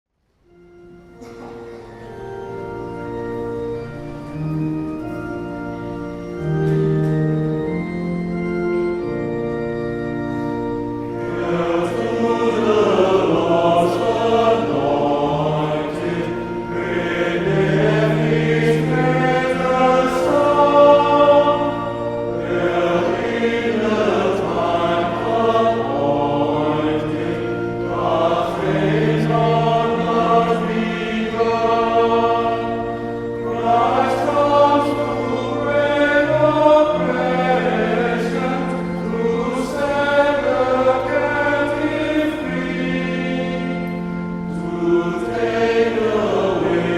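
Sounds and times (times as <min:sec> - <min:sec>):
organ playing chords: 0:00.2 - 0:46.9
men's choir singing a hymn: 0:00.7 - 0:46.9.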